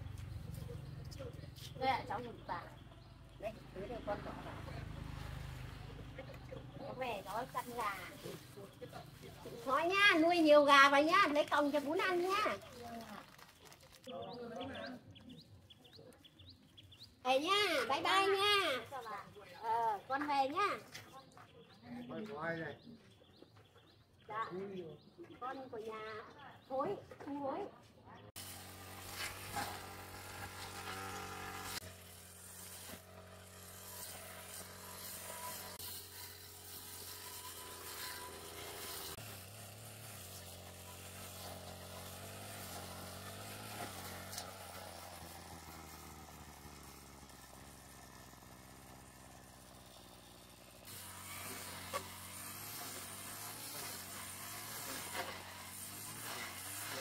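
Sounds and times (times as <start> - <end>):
small motorbike engine running: 0.0 - 21.0, 28.4 - 57.0.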